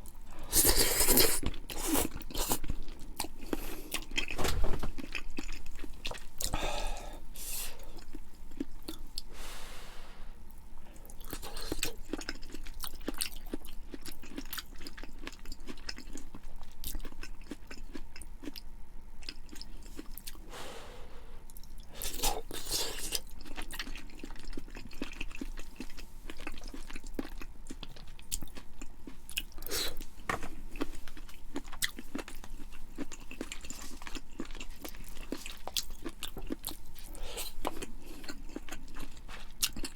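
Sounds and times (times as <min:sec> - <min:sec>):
person chewing food: 0:00.0 - 0:09.9, 0:10.5 - 0:20.8, 0:21.4 - 0:39.9.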